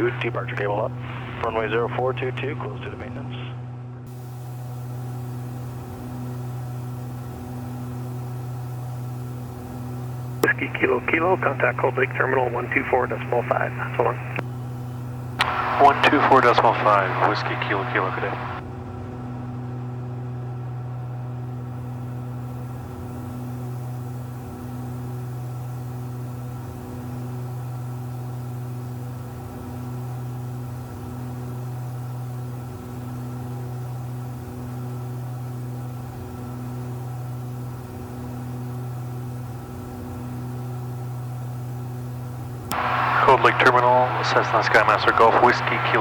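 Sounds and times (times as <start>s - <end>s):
aircraft cabin engine drone: 0.0s - 46.0s.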